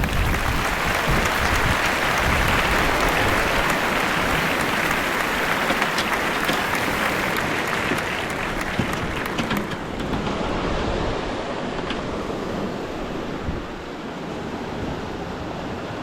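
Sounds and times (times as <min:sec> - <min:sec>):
surf breaking on beach: 0:00.0 - 0:15.3.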